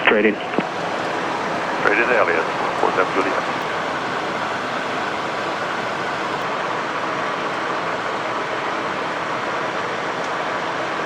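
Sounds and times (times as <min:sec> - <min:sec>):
jet cockpit engine noise: 0:00.0 - 0:11.0.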